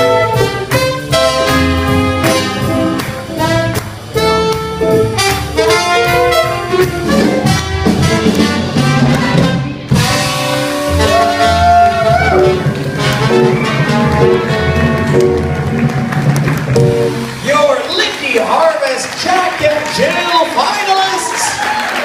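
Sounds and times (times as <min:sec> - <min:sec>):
swing jazz band playing: 0:00.0 - 0:20.0.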